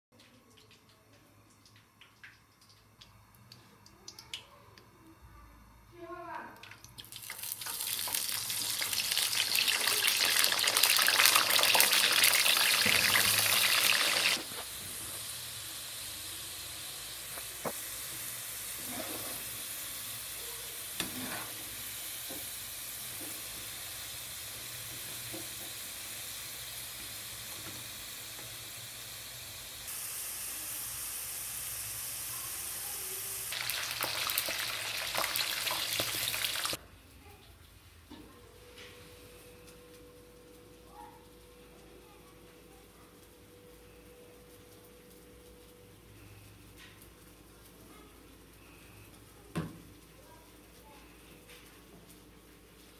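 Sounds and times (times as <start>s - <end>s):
frying sizzle in hot oil: 6.2s - 52.9s.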